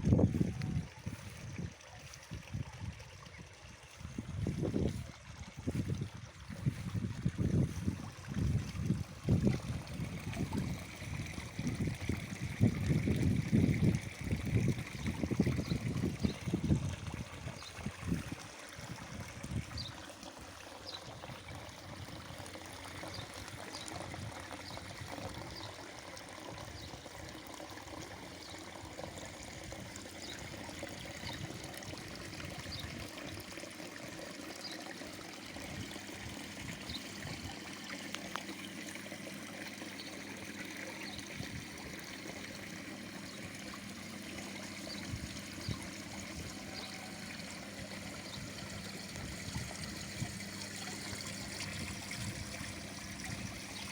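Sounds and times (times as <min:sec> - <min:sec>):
waterfall splashing into pond: 0:08.6 - 0:53.9.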